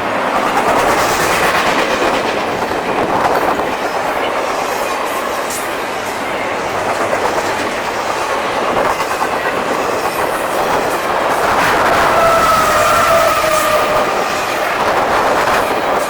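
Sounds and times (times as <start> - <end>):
freight train wheels clicking on rails: 0.0 - 16.0.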